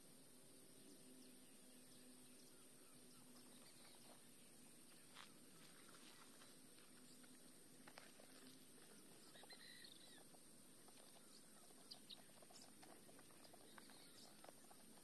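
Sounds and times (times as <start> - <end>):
bird chirp: 0.0 - 15.0.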